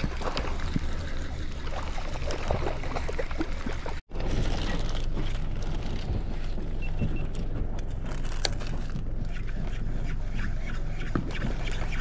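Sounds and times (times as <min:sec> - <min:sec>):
boat motor running: 0:00.0 - 0:12.0
water and hull noise: 0:00.0 - 0:12.0.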